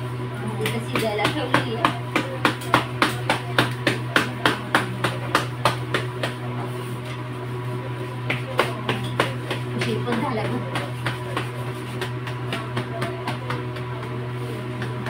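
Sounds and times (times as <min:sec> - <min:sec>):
steady low hum: 0:00.0 - 0:15.0
hands slapping dough: 0:00.5 - 0:06.8, 0:08.2 - 0:15.0.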